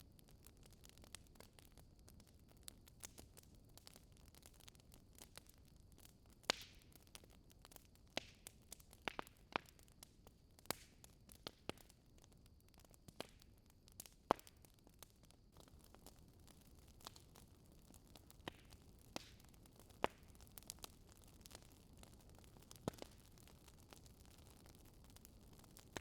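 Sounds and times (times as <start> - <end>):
wood fire crackling: 0.1 - 26.0.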